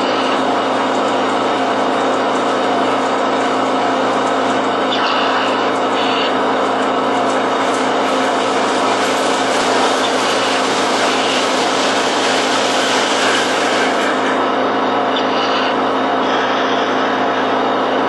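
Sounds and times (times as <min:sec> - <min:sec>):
model train whirring: 0:00.0 - 0:17.6.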